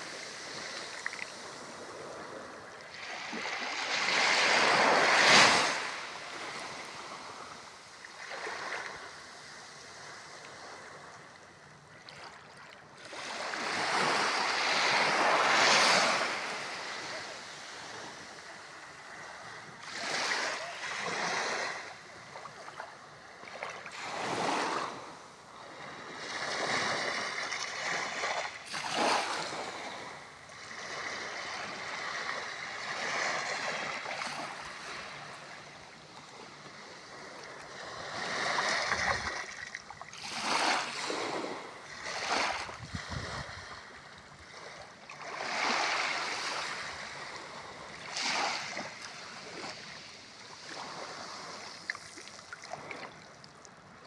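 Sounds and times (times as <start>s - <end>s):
small waves washing on sand: 0.0s - 11.2s, 12.1s - 54.0s.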